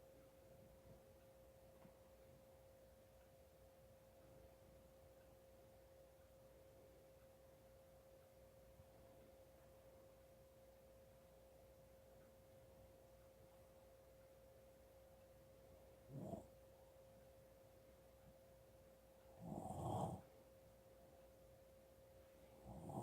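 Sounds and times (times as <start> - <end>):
thin steady hum: 0.0 - 23.0.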